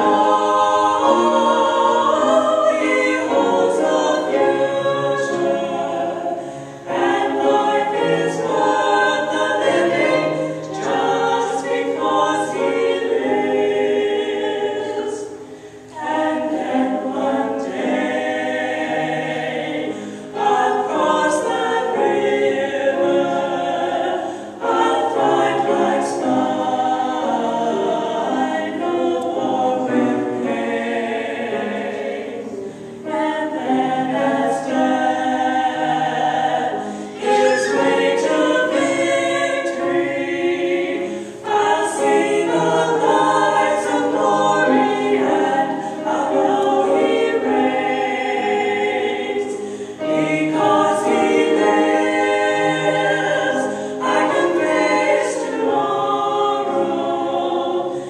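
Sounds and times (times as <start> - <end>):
women singing in parts: 0.0 - 58.0.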